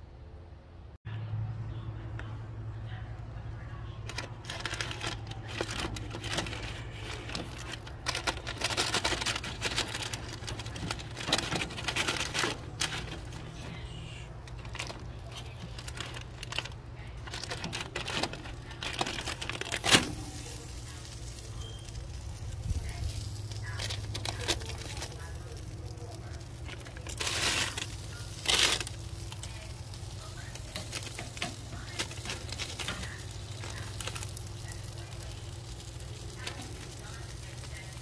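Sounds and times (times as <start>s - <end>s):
steady low hum: 0.0s - 38.0s
paper crinkling and clicking: 4.0s - 22.2s, 22.9s - 38.0s.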